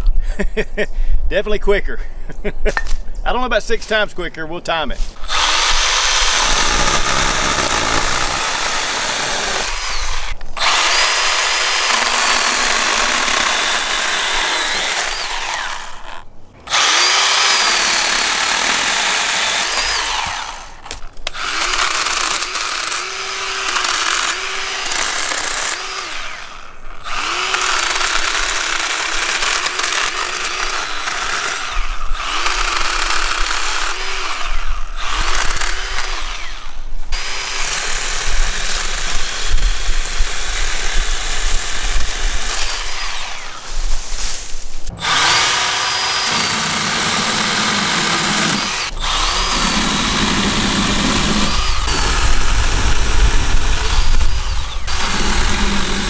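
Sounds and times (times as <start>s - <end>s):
electric chainsaw cutting wood: 5.2s - 56.0s.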